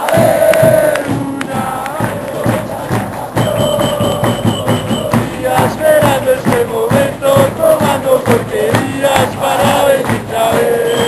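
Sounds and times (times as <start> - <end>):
bass drum beat: 0.0 - 11.0
crowd singing a chant: 0.0 - 11.0.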